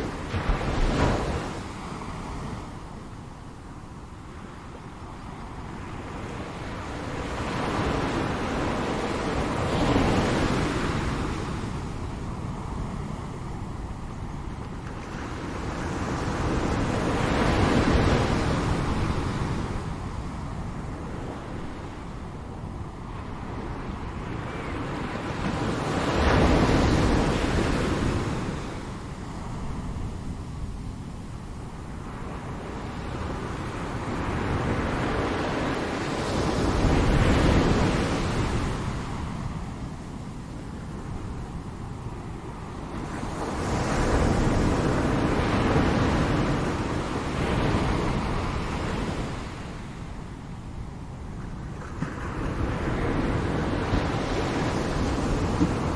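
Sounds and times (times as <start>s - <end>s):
ocean waves washing: 0.0s - 55.9s.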